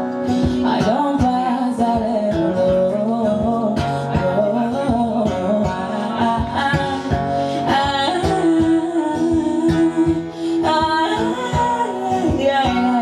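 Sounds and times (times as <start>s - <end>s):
person singing: 0.0s - 13.0s
strummed guitar: 0.0s - 13.0s.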